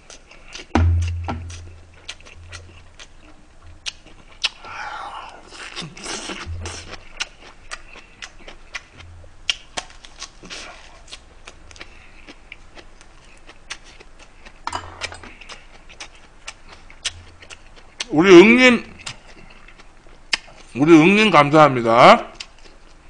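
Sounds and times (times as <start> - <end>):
close chewing with wet mouth clicks: 0.0 - 0.8, 1.5 - 4.7, 5.5 - 18.1, 19.0 - 20.8, 22.4 - 23.0.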